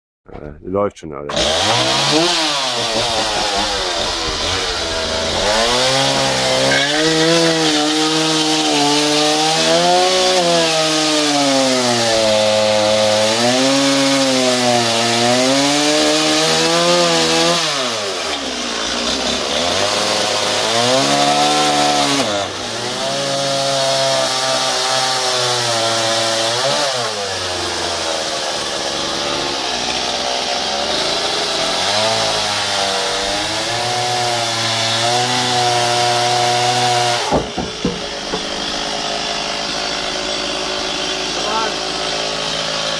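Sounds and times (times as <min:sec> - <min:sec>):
chainsaw cutting wood: 0:01.3 - 0:42.9.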